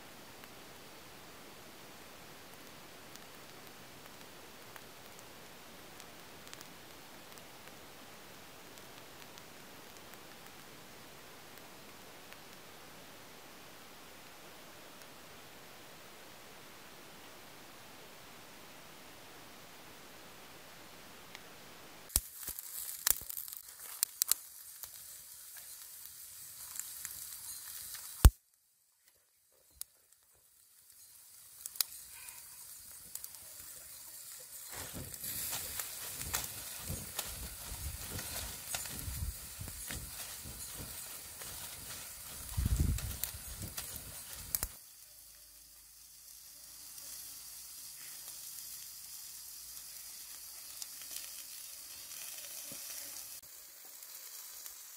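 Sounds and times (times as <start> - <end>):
fish sizzling on fire: 0.3 - 15.2, 22.0 - 28.4, 29.8 - 54.9
embers crackling: 0.3 - 15.6, 21.1 - 28.4, 29.0 - 54.9.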